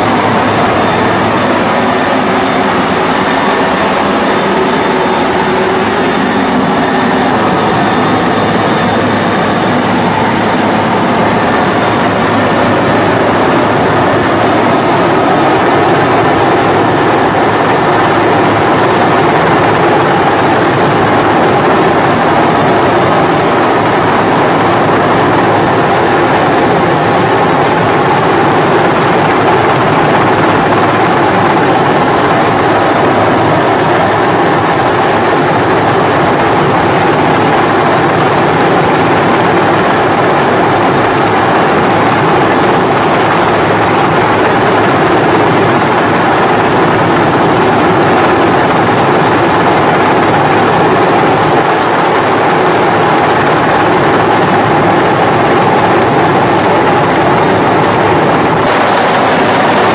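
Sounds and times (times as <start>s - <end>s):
helicopter engine and rotor noise: 0.0s - 59.9s.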